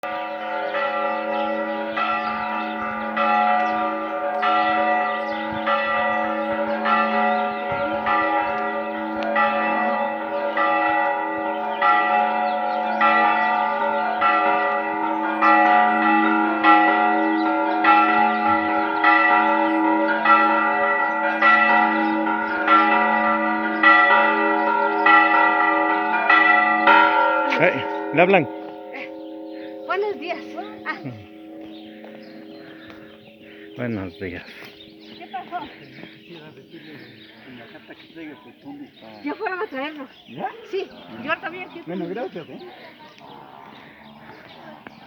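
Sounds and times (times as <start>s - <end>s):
church bells ringing: 0.0s - 45.0s.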